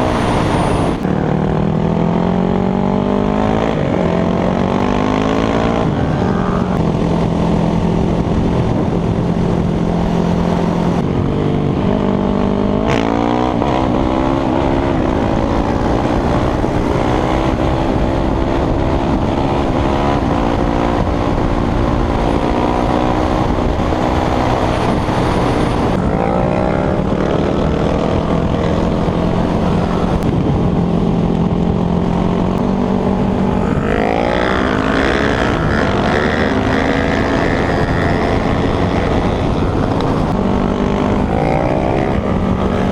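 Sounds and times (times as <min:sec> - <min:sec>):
wind and road noise: 0:00.0 - 0:42.9.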